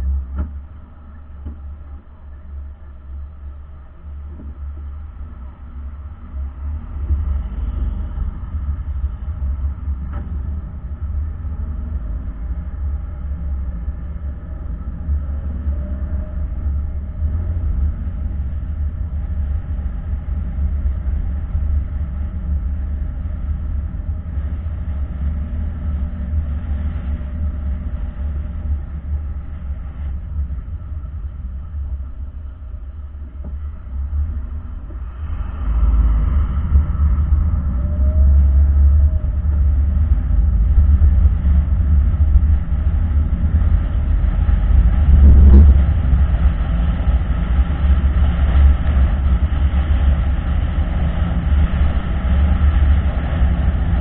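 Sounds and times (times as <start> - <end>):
car cabin road and engine noise: 0.0 - 54.0.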